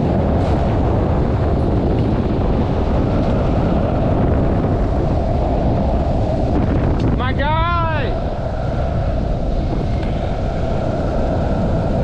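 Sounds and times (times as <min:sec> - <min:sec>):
skateboard wheels rolling on asphalt: 0:00.0 - 0:12.0
wind buffeting microphone: 0:00.0 - 0:12.0.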